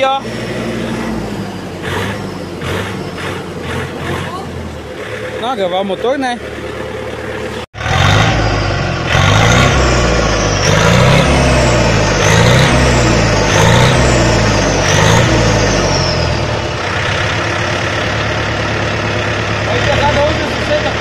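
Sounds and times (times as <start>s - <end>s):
high turbo whine: 0.0s - 21.0s
tractor engine revving: 0.0s - 21.0s.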